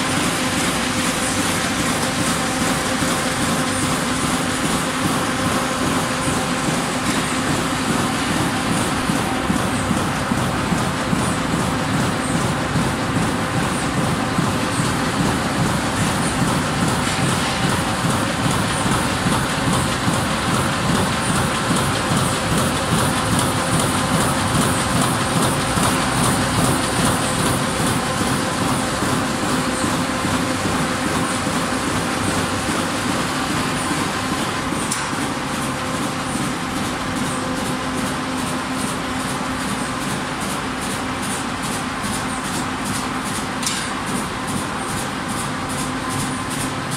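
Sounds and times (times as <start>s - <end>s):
constant machine hum: 0.0s - 46.9s
machine clatter: 0.0s - 46.9s.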